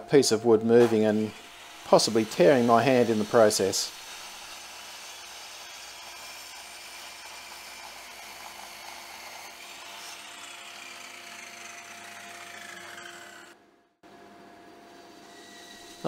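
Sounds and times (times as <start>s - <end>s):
electric saw cutting wood: 0.8s - 13.6s, 14.9s - 16.0s.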